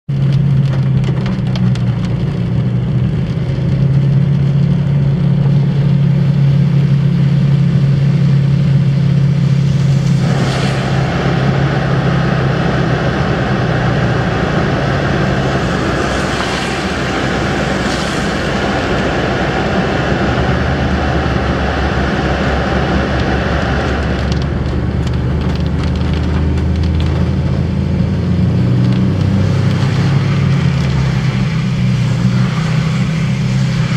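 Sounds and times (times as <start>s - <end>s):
car engine and road hum: 0.1s - 33.9s
rain and wet tyres hissing: 0.1s - 33.9s.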